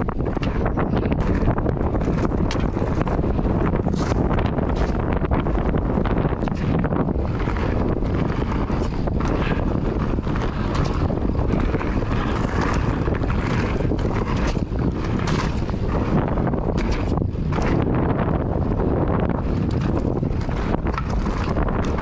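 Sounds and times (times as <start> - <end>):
bike clicks and rattles: 0.0 - 22.0
tyres rolling on loose gravel: 0.0 - 22.0
wind buffeting microphone: 0.0 - 22.0.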